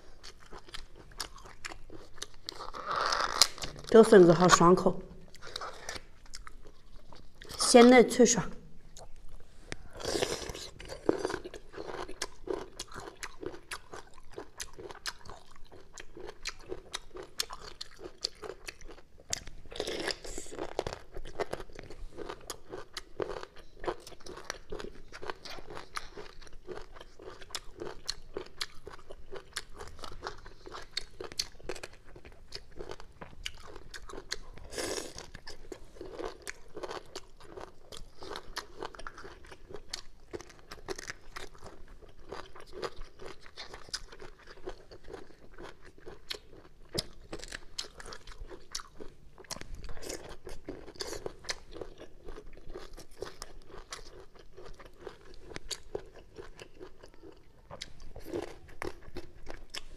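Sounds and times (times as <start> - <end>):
crunchy chewing of bamboo shoots: 0.0 - 3.9, 9.8 - 59.9.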